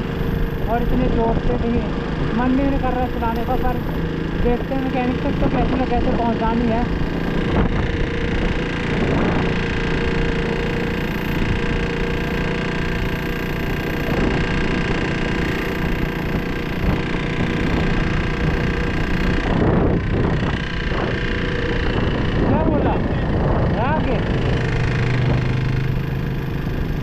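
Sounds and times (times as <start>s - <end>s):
harsh damaged engine running: 0.0s - 27.0s.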